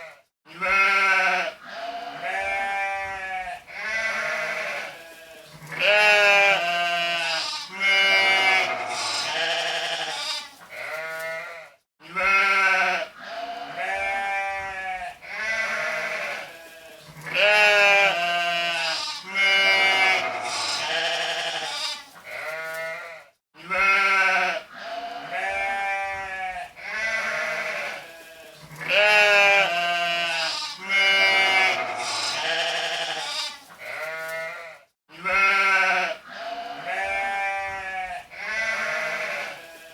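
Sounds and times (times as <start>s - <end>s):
sheep bleating: 0.0s - 39.9s.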